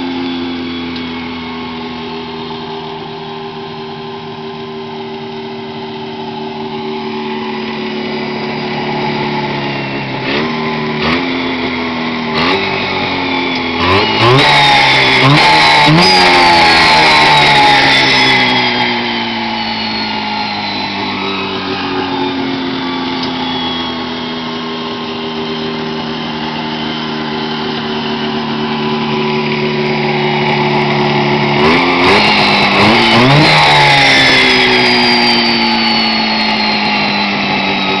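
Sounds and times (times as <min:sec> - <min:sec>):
two-stroke engine revving: 0:00.0 - 0:38.0.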